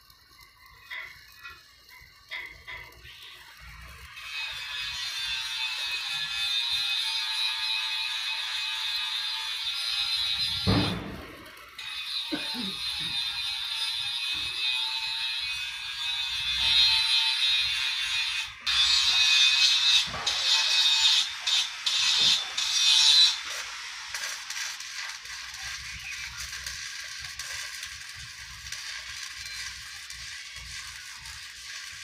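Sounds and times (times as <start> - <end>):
welding arc crackling and hissing: 0.0 - 32.0.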